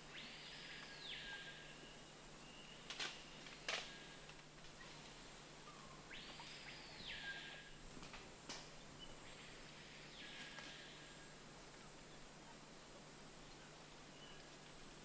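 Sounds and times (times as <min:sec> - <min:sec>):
faint forest ambience: 0:00.0 - 0:15.0.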